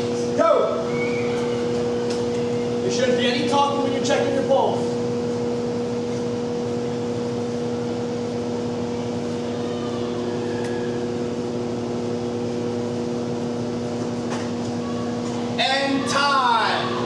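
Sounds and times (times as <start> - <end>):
ventilation system hum: 0.0 - 17.0.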